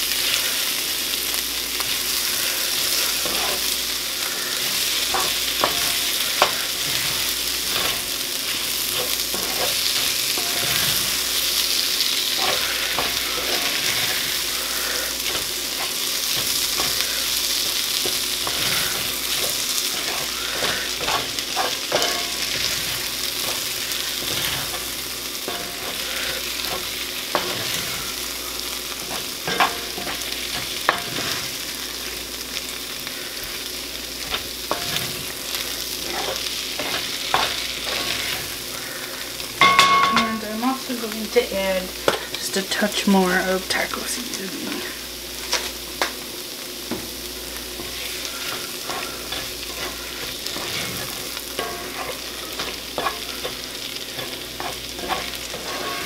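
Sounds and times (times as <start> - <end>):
vegetables sizzling in a skillet: 0.0 - 56.0
wooden spoon scraping a pan: 1.8 - 32.2, 33.1 - 40.9, 47.8 - 56.0.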